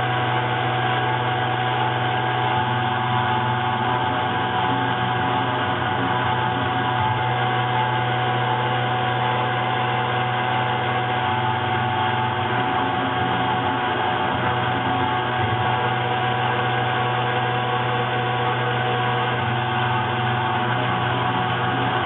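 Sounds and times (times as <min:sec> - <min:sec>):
milling machine mechanical hum: 0:00.0 - 0:22.0.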